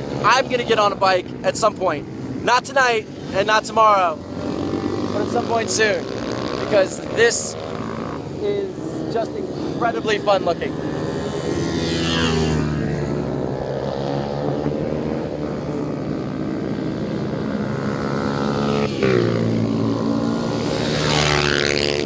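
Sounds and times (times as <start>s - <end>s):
bikes passing by: 0.0s - 22.0s
mini moto engines racing: 0.0s - 22.0s.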